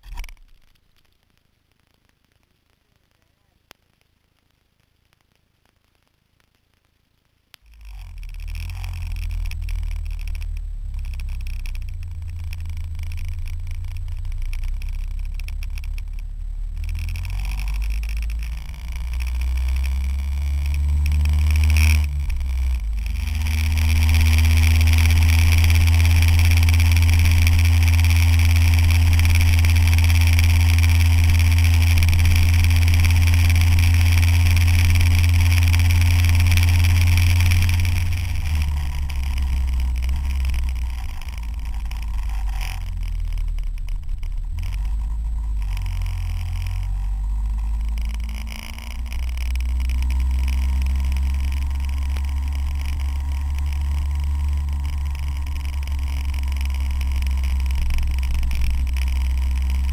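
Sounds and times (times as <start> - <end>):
motorcycle engine: 7.6 - 59.9.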